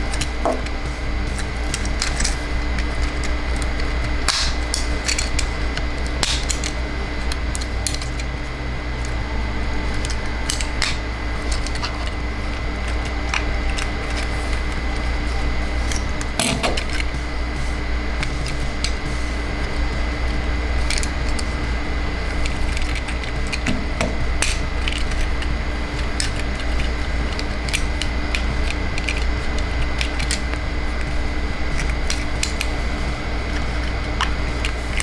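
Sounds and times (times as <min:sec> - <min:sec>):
plastic toy parts clicking: 0:00.0 - 0:35.0
steady hum: 0:00.0 - 0:35.0.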